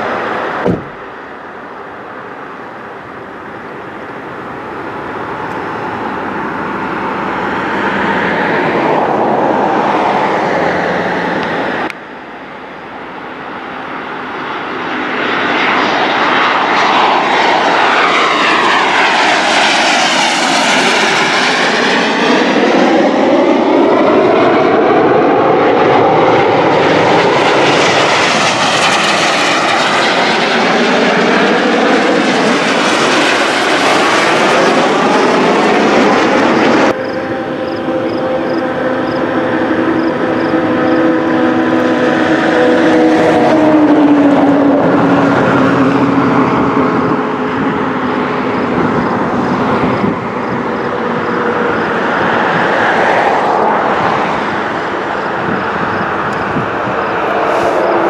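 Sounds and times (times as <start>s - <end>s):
jet aircraft roar: 0.0s - 58.0s.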